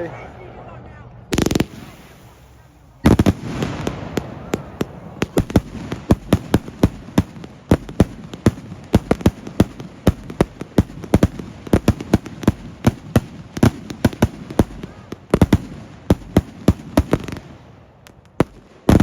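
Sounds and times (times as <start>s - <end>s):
fireworks sharp bangs: 1.2s - 19.0s.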